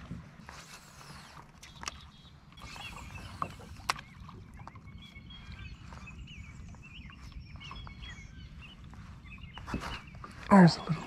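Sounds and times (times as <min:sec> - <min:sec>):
small birds chirping: 0:00.4 - 0:11.0.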